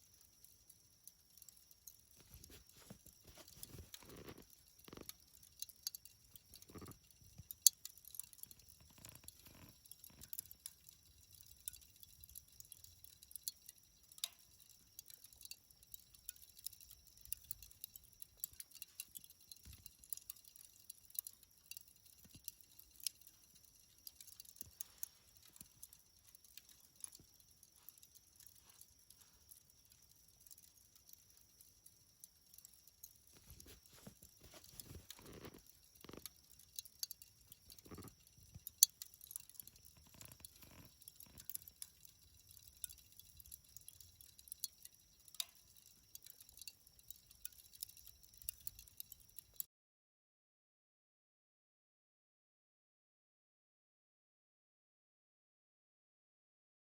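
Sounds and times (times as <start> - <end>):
burning charcoal crackling: 0.0 - 49.6
sharp high ticks and pops: 0.0 - 49.7.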